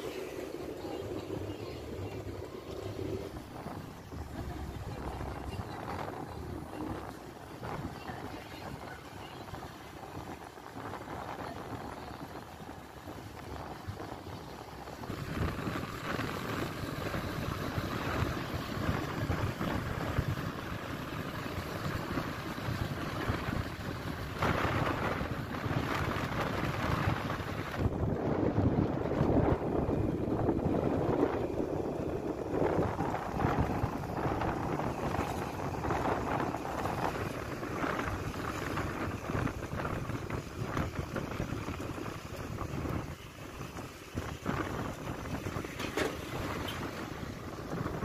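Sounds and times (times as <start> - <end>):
low rumble of car and road: 0.0 - 48.0
wind buffeting microphone: 0.0 - 48.0.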